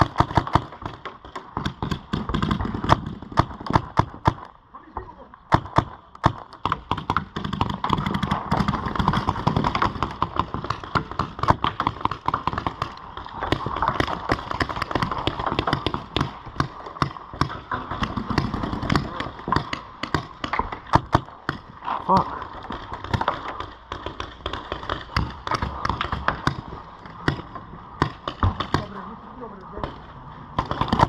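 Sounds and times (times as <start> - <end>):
paintball markers firing: 0.0 - 4.5, 5.5 - 29.0, 29.8 - 31.0.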